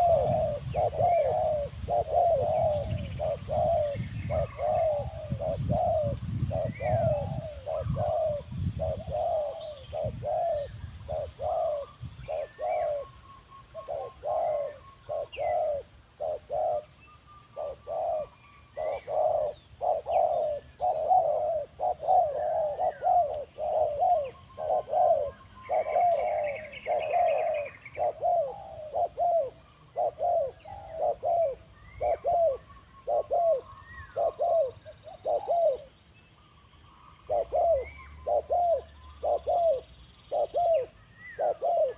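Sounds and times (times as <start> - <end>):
dove cooing: 0.0 - 36.0, 36.9 - 41.9
small birds chirping: 0.0 - 41.9.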